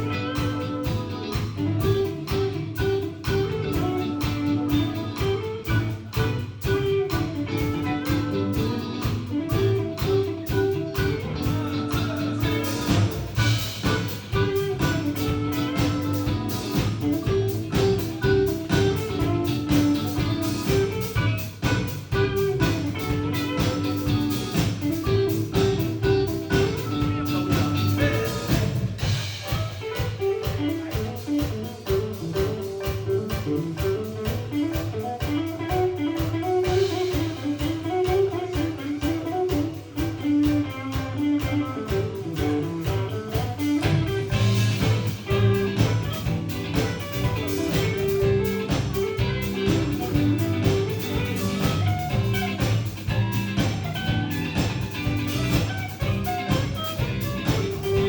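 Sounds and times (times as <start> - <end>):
bass: 0.0 - 58.0
drum kit steady beat: 0.0 - 58.0
guitar riffing: 0.0 - 58.0.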